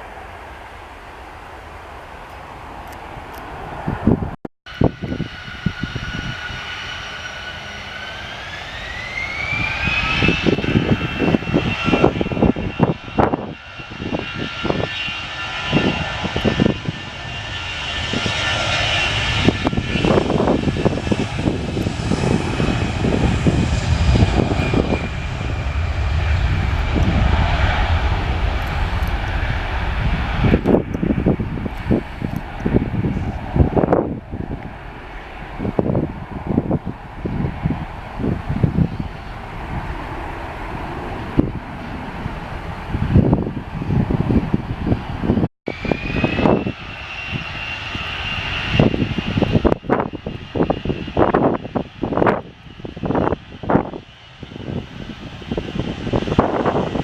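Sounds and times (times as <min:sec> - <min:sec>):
jet engines whining: 0:00.0 - 0:57.0
wind buffeting microphone: 0:01.6 - 0:57.0.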